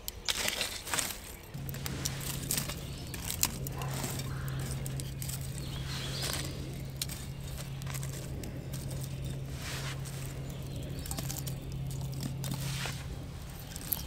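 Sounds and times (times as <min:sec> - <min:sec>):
sticks clicking and rustling: 0:00.0 - 0:14.0
steady low hum: 0:01.4 - 0:14.0.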